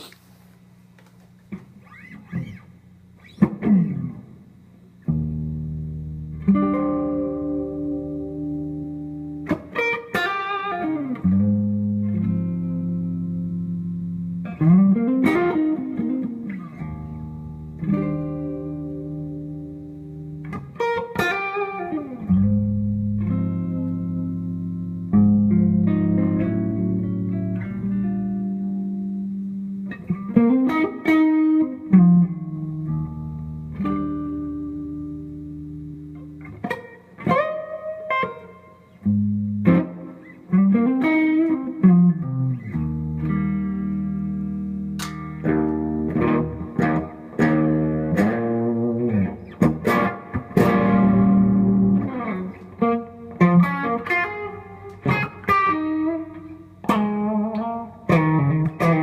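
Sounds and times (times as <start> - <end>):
electric guitar playing chords: 1.5 - 59.0.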